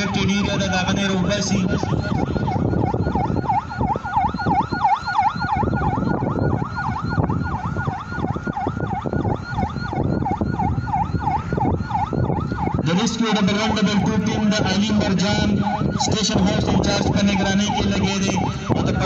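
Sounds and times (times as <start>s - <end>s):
electronic siren yelping: 0.0s - 19.0s.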